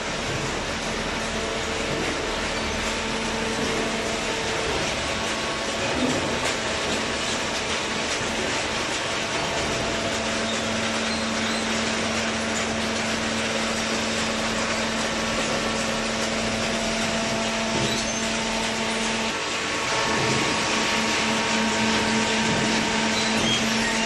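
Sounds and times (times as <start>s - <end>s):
dense mechanical noise: 0.0s - 24.0s
motor hum: 0.0s - 24.0s.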